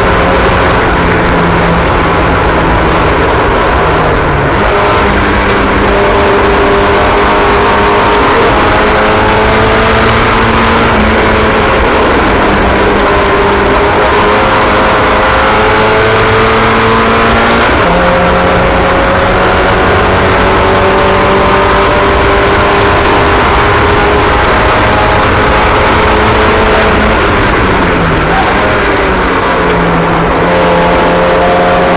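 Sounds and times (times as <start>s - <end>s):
small racing engines: 0.0s - 31.9s.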